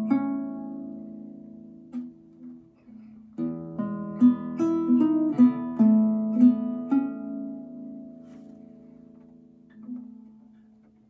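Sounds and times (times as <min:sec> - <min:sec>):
fingerpicked guitar: 0:00.0 - 0:11.0.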